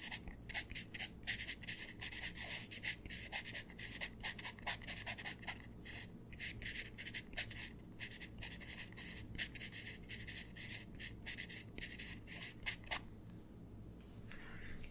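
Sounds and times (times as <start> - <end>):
pencil scribbling: 0.0 - 13.0.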